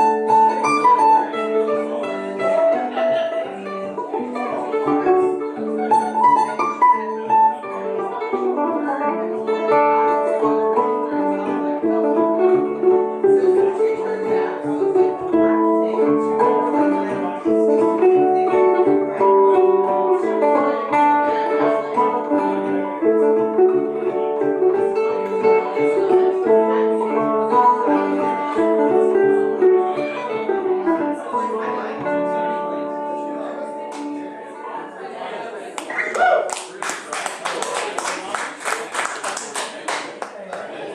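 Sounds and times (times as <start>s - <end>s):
mandolin picking melody: 0.0s - 38.9s
acoustic folk string music: 0.0s - 40.9s.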